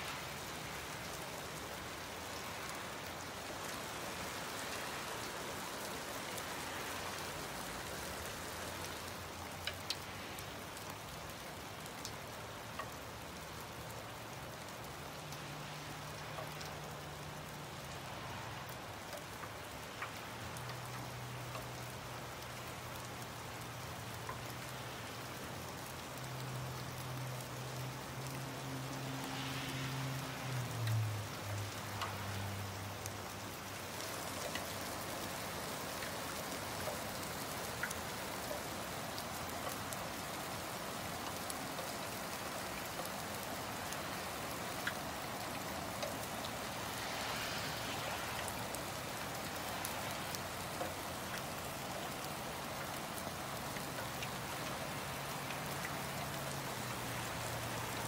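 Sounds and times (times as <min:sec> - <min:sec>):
rain on pavement and grass: 0:00.0 - 0:58.0
sharp drip ticks: 0:05.8 - 0:58.0.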